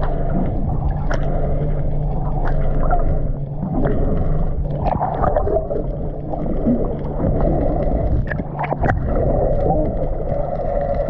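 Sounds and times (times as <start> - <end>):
steady low rumble: 0.0 - 11.0
water rushing and bubbling underwater: 0.0 - 11.0.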